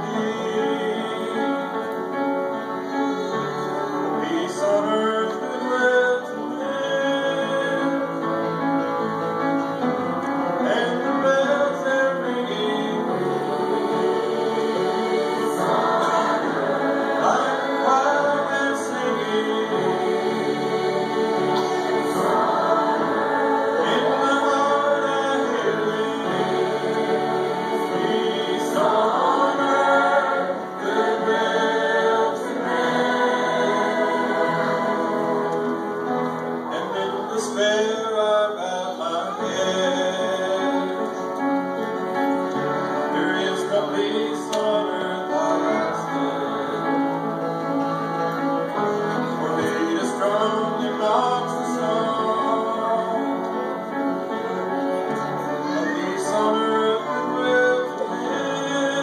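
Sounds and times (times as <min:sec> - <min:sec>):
choir singing a carol: 0:00.0 - 0:59.0.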